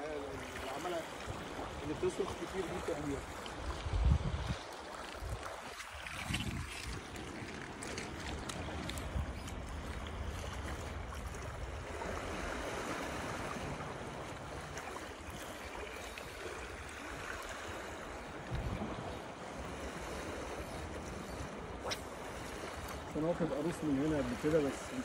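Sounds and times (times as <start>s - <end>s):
small waves lapping on rocks: 0.0s - 25.0s
wind rumbling on microphone: 1.2s - 23.1s.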